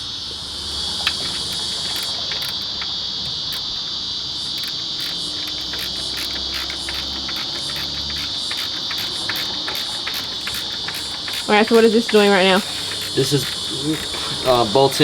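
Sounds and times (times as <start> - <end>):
crickets chirping: 0.0 - 15.0
light clicks: 0.8 - 15.0.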